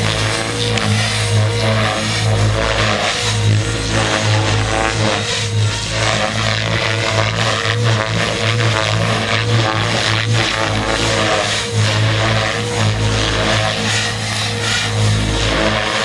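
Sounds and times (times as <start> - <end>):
model helicopter rotor whine: 0.0 - 16.0.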